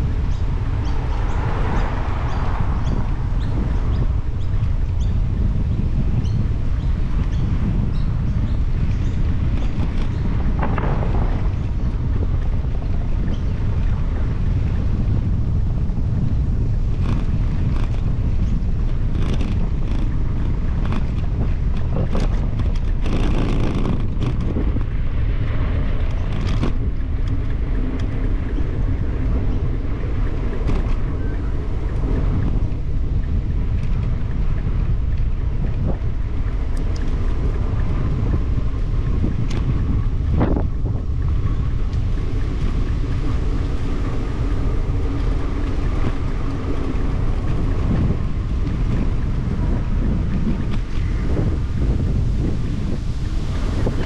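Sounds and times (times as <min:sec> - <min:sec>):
wind buffeting microphone: 0:00.0 - 0:54.0
bicycle clicks and rattles: 0:00.1 - 0:14.0, 0:16.1 - 0:52.5.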